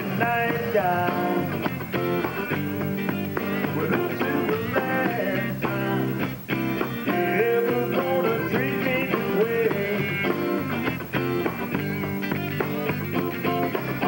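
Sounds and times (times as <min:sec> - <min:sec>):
bending lead guitar line: 0:00.0 - 0:14.0
blues band playing: 0:00.0 - 0:14.0.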